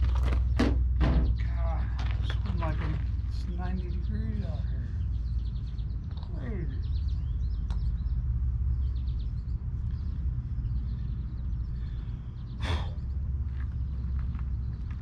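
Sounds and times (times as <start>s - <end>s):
faint birdsong: 0.0s - 15.0s
wind rumbling on microphone: 0.0s - 15.0s.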